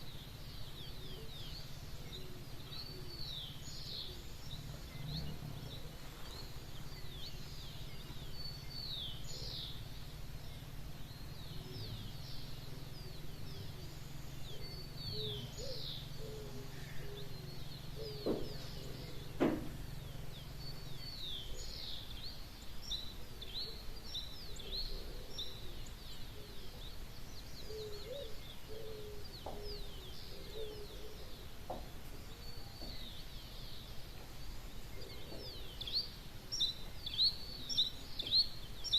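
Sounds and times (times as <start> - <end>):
low steady hum: 0.0 - 38.9
songbirds chirping: 0.0 - 38.9.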